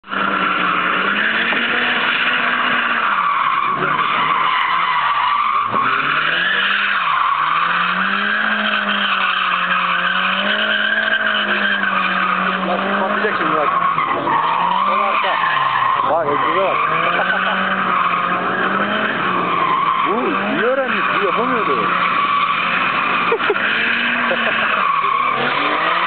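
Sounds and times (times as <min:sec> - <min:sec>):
car engine revving: 0:00.0 - 0:26.0
tyres squealing on tarmac: 0:00.1 - 0:26.0.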